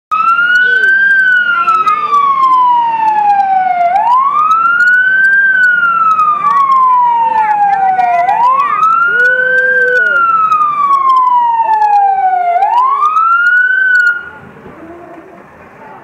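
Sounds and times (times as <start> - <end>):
fire engine wail siren: 0.1 - 15.6.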